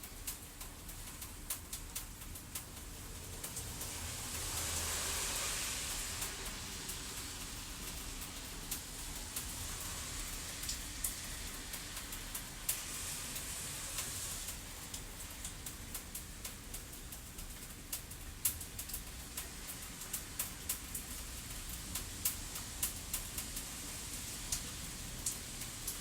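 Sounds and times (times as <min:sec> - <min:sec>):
fire crackling and popping: 0:00.0 - 0:26.0
steady rain: 0:00.0 - 0:26.0.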